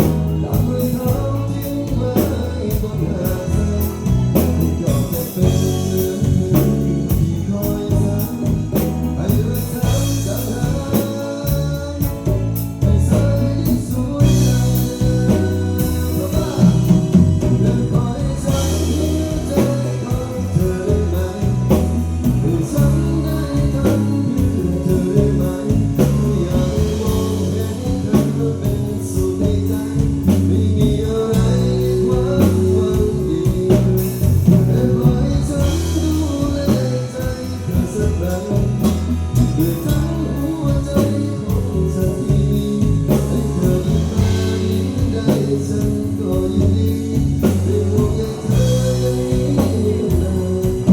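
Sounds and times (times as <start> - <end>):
bass line: 0.0 - 50.9
guitar: 0.0 - 50.9
person singing: 0.0 - 50.9.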